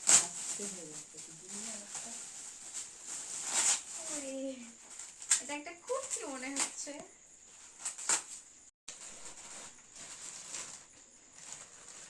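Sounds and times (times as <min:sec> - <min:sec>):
gift packaging crinkling: 0:00.0 - 0:12.0.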